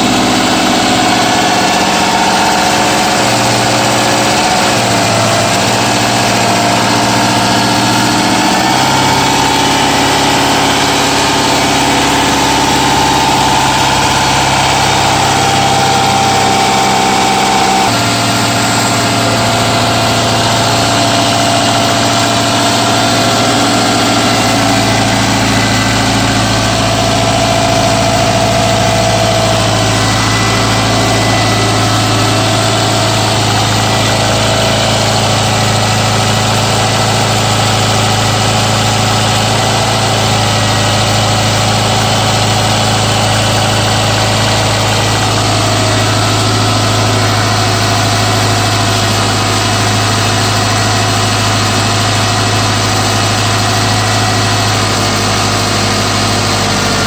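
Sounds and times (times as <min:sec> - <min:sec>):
car engine idling: 0:00.0 - 0:57.0
engine knock: 0:00.0 - 0:57.0.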